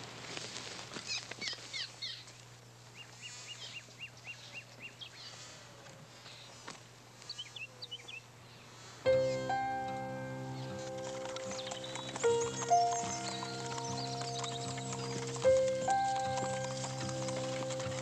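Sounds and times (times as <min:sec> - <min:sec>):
songbirds chirping: 0:01.0 - 0:18.0.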